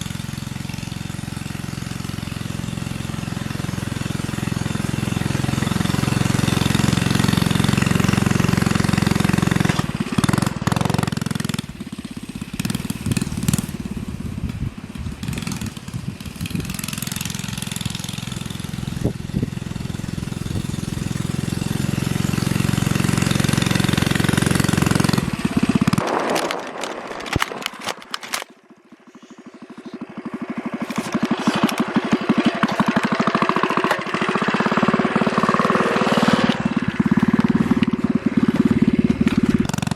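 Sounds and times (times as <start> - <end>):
minibike engine revving: 0.0 - 39.9.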